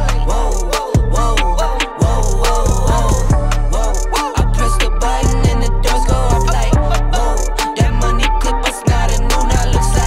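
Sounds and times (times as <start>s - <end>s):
hip hop music: 0.0s - 10.0s.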